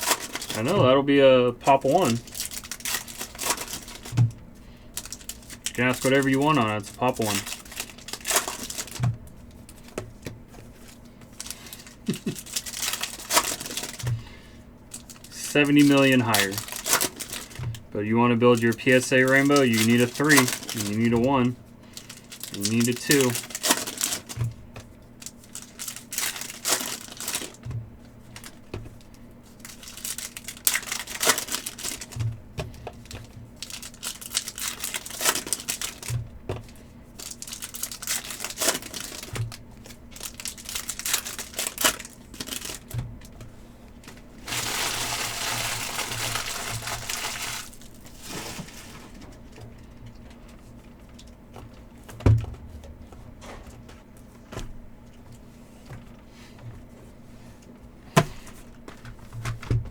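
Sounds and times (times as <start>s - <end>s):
foil wrappers crinkling and tearing: 0.0s - 10.0s, 10.6s - 51.8s.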